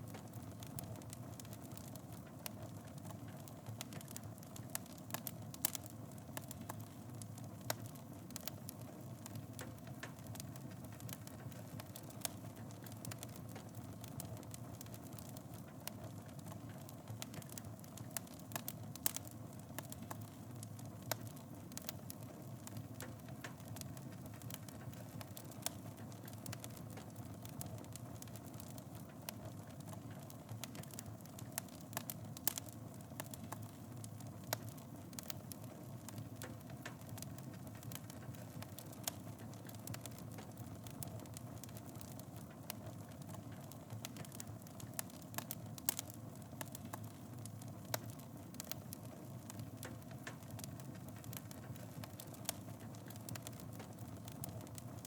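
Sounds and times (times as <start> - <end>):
fire crackles and pops: 0.0 - 55.0
wood fire rumbling: 0.1 - 55.0.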